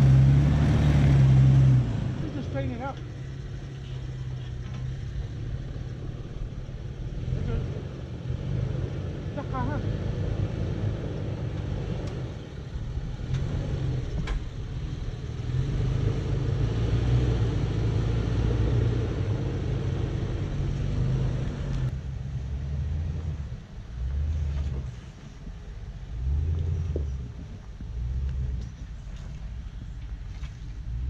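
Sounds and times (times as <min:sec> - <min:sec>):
low dull engine rumble: 0:00.0 - 0:31.0
suv engine at low revs: 0:00.0 - 0:31.0.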